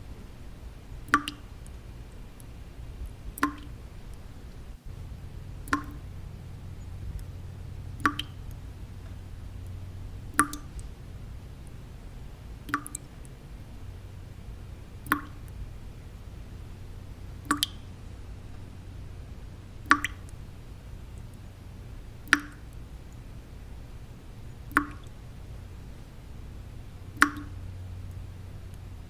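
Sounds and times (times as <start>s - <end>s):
low white-noise hum: 0.0s - 29.0s
water drops falling: 0.4s - 25.4s, 27.0s - 29.0s.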